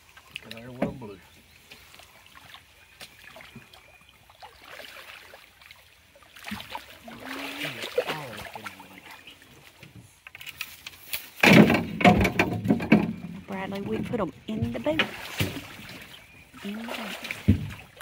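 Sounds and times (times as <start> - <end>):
fish thrashing and splashing water: 1.7 - 9.8, 11.4 - 18.0.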